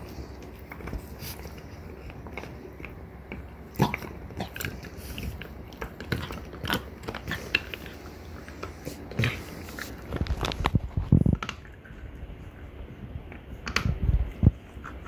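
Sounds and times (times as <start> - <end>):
dogs gnawing on antlers: 0.0 - 15.0.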